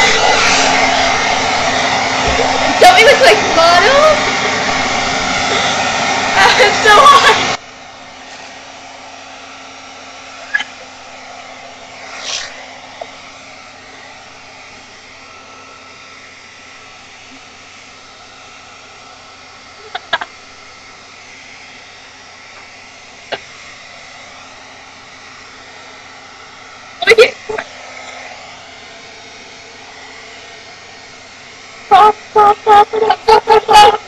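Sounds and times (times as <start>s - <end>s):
hair dryer blowing: 0.0s - 34.0s.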